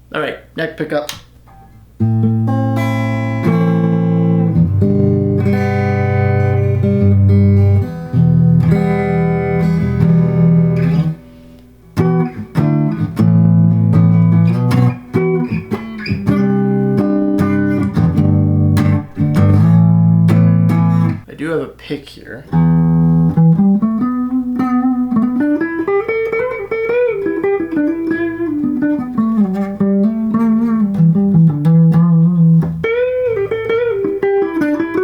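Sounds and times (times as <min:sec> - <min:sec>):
electric guitar chords strummed: 0:01.5 - 0:21.3, 0:22.5 - 0:35.0.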